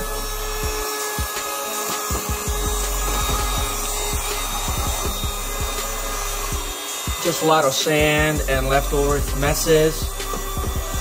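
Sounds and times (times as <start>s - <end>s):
handheld vacuum whining: 0.0s - 11.0s.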